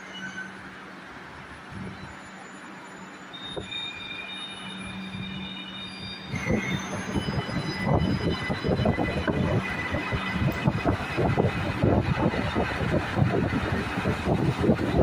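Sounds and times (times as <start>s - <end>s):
wheel squeal: 0.0s - 0.8s, 1.8s - 15.0s.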